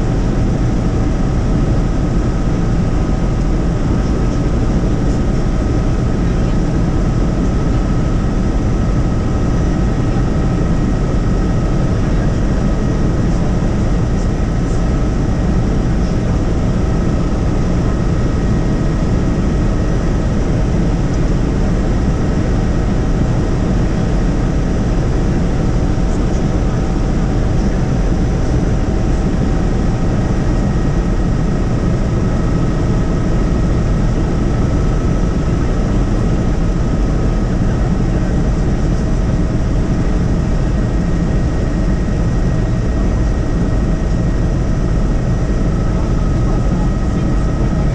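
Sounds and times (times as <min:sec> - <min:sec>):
helicopter rotor drone: 0:00.0 - 0:47.9
high turbine whine: 0:00.0 - 0:47.9.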